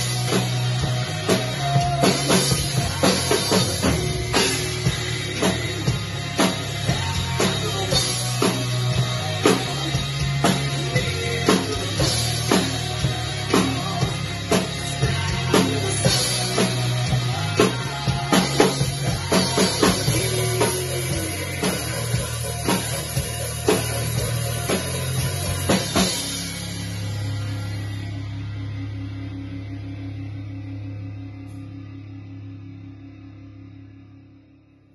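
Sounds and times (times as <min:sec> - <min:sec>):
drum kit playing rock beat: 0:00.0 - 0:32.9
rock backing track: 0:00.0 - 0:34.5.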